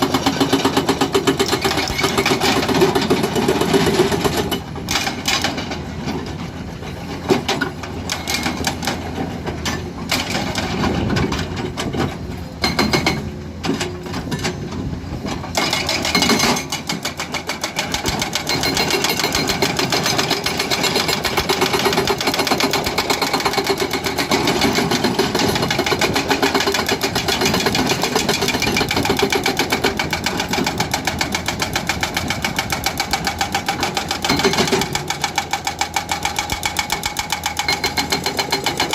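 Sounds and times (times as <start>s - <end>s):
hydraulic breaker hammering rock: 0.0s - 6.2s, 7.2s - 14.7s, 15.3s - 38.9s.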